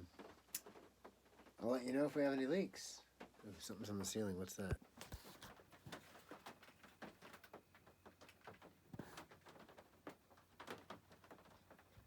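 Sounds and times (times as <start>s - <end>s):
faint raindrops on a roof: 0.0s - 12.0s.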